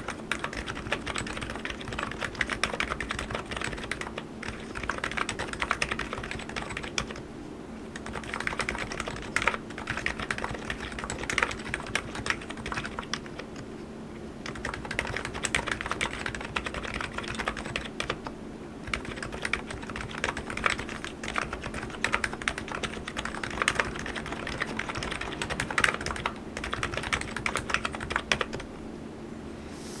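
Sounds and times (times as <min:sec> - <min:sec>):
fast keyboard typing: 0:00.0 - 0:07.2, 0:08.0 - 0:13.6, 0:14.4 - 0:28.7.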